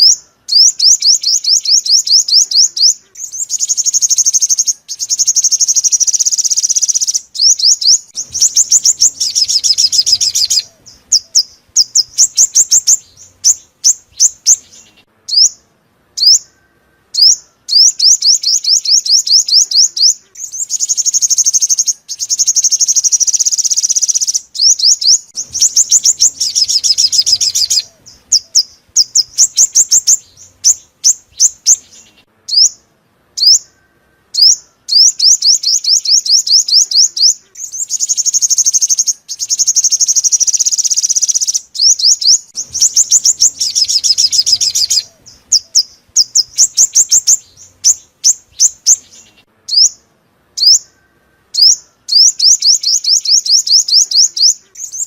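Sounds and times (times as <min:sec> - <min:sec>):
sunbird chirps and trills: 0:00.0 - 0:55.0.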